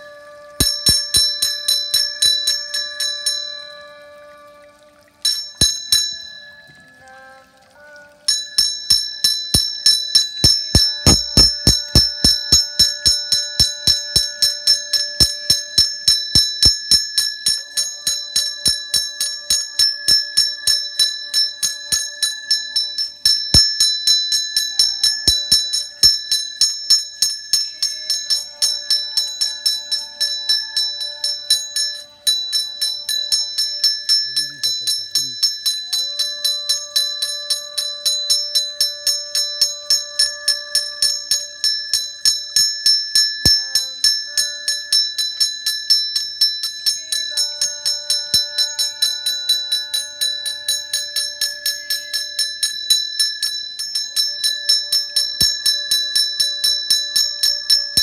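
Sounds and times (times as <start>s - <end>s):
small metal bell rung rapidly: 0.6s - 3.8s, 5.2s - 6.8s, 8.3s - 58.0s.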